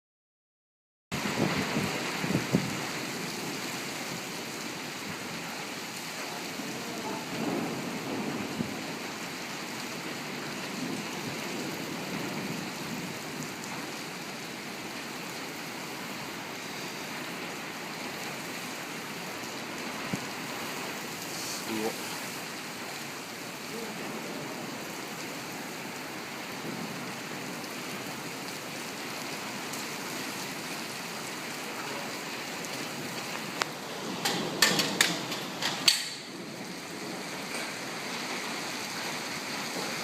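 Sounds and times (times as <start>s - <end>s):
torrential rain pouring: 1.1s - 40.0s.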